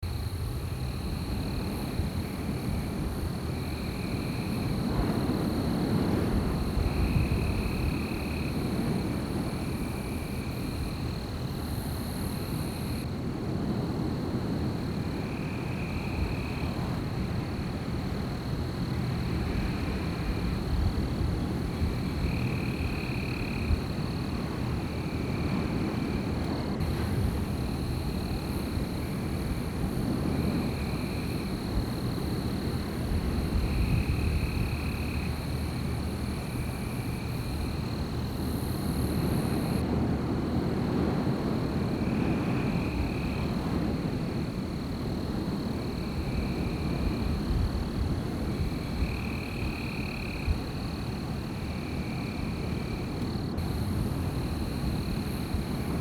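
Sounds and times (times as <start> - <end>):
wind blowing through forest: 0.0 - 56.0.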